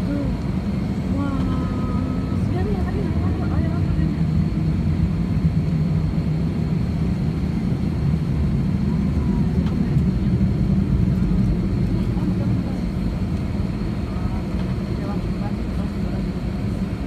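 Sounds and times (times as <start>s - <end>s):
low rumble of aircraft engines: 0.0s - 17.0s.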